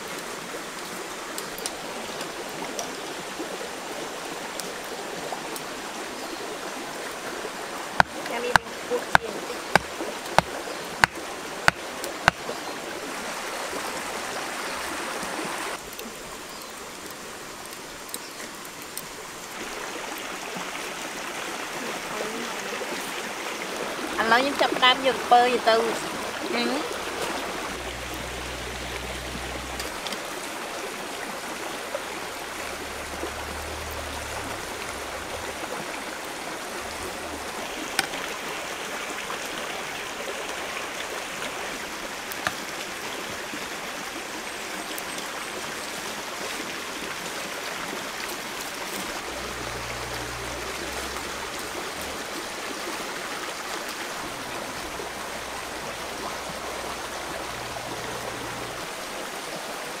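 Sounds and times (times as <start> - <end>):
stream water flowing: 0.0 - 60.0.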